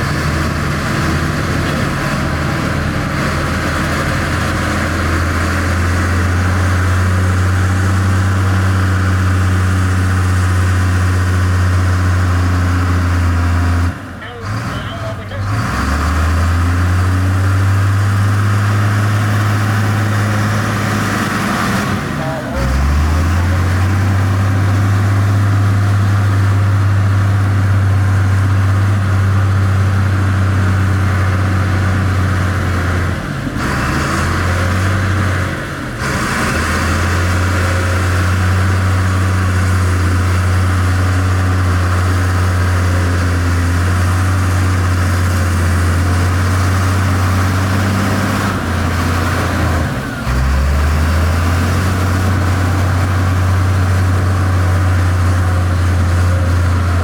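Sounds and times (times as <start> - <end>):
diesel machinery engine droning: 0.0 - 57.0.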